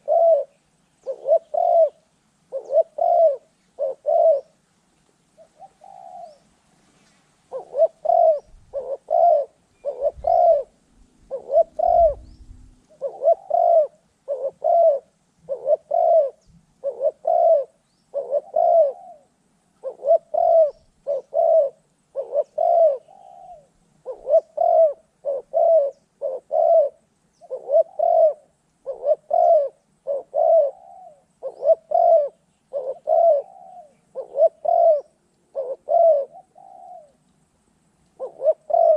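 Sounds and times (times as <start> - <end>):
dove cooing: 0.0 - 4.6, 5.3 - 6.5, 7.5 - 37.3, 38.2 - 38.9.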